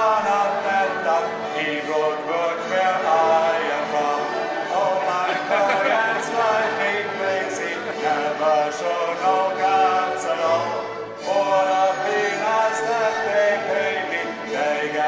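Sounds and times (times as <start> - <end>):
people singing karaoke: 0.0 - 15.0.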